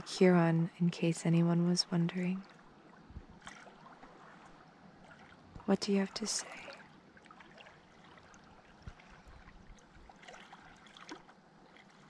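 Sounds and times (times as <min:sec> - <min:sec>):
water lapping over rocks: 0:02.2 - 0:12.0.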